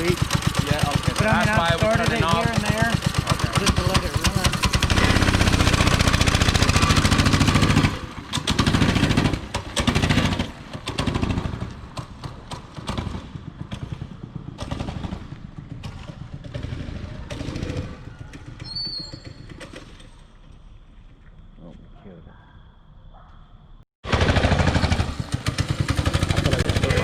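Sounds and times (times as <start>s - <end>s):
mini bike engine revving: 0.0s - 20.2s, 24.1s - 27.0s.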